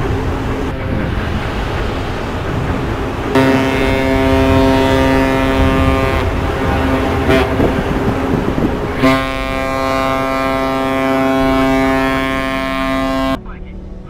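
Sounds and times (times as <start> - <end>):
ship's horn blast: 0.0 - 13.9
rushing noise: 0.0 - 14.0.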